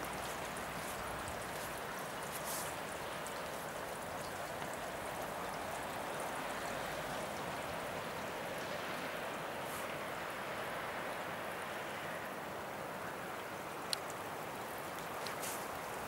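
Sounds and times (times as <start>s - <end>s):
faint water drips: 0.0s - 16.0s
rain falling: 0.0s - 16.0s.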